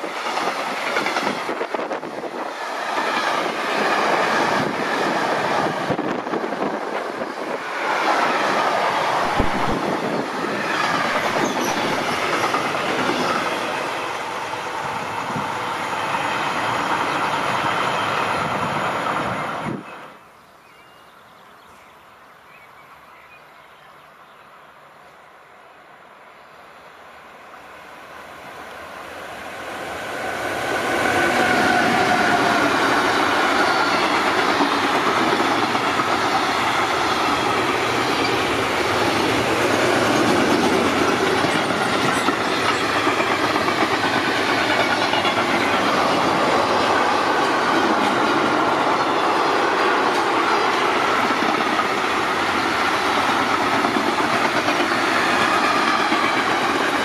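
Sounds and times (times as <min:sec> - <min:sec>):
train wheels rushing on track: 0:00.0 - 0:20.2, 0:26.9 - 0:57.0.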